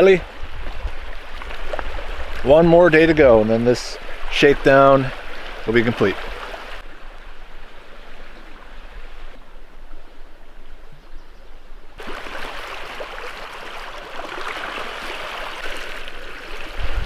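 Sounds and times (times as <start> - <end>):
lake waves on shore: 0.0 - 10.9, 11.8 - 17.0.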